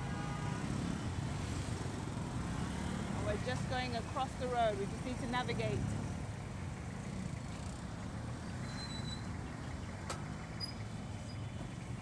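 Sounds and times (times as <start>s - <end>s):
surrounding traffic noise: 0.0s - 12.0s.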